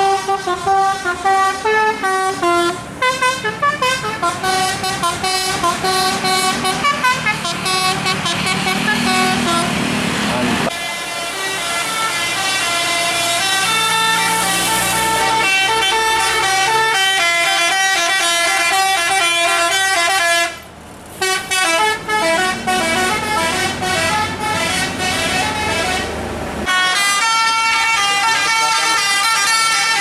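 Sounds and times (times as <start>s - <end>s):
bus musical horn melody: 0.0s - 10.0s, 10.6s - 30.0s.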